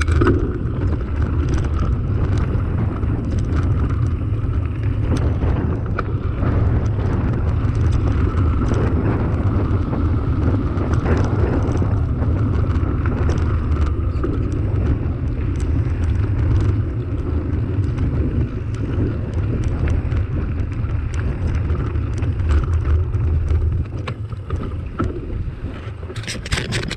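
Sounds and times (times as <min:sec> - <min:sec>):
bike tyres rumbling on gravel: 0:00.0 - 0:26.9
wind on microphone: 0:00.0 - 0:26.9.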